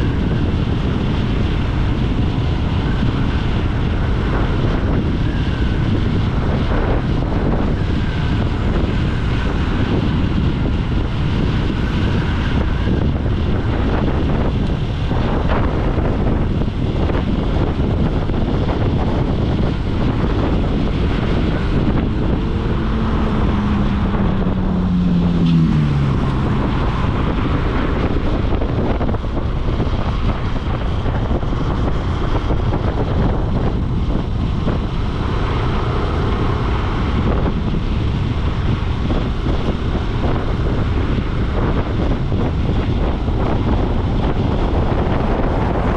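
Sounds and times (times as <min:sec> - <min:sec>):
road noise: 0:00.0 - 0:45.9
wind rush on microphone: 0:00.0 - 0:45.9
motorcycle engine: 0:01.7 - 0:43.0.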